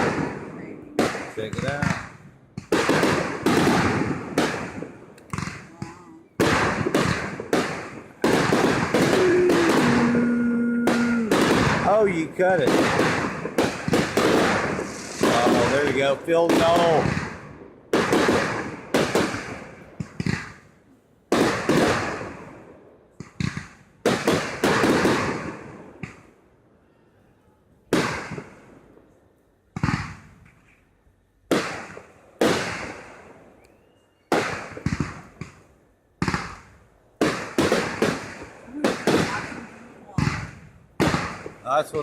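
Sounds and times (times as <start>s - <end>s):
fireworks bangs: 0.0s - 26.4s, 27.8s - 42.0s.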